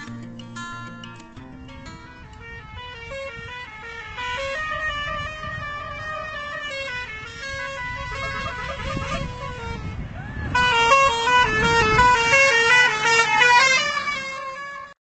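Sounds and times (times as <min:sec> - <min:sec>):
bus rumbling: 0:00.0 - 0:15.0
musical bus horn melody: 0:01.8 - 0:15.0.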